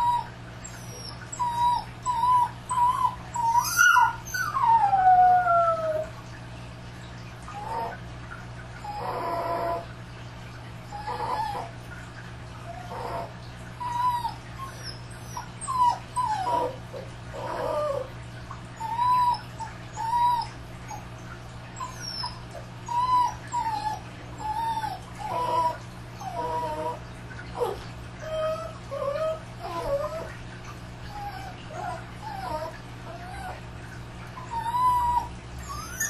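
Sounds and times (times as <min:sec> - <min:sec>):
dogs whining and crying: 0:00.0 - 0:06.4, 0:07.2 - 0:10.0, 0:10.8 - 0:36.0.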